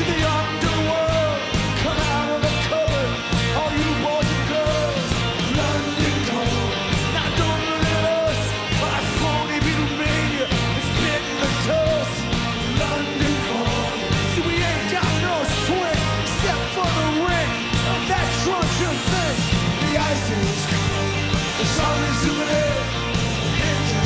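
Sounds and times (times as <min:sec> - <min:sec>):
rock music with sung vocal: 0:00.0 - 0:24.0.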